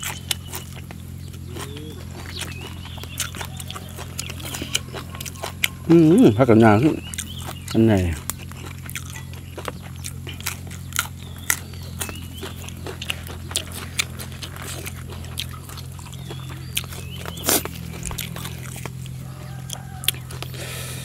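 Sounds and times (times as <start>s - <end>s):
chewing and crunching vegetable: 0.0s - 21.0s
steady low hum: 0.0s - 21.0s.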